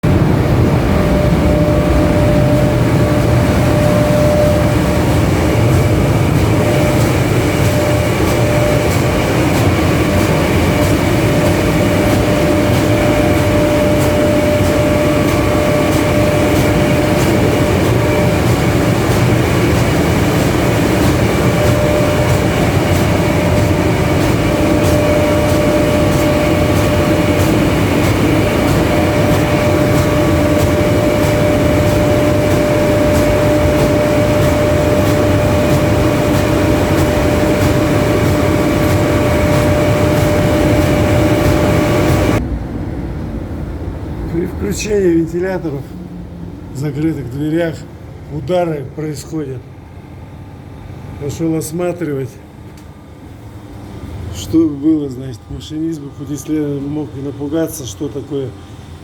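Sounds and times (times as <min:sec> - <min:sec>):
ventilation fans droning and whining: 0:00.0 - 0:59.0.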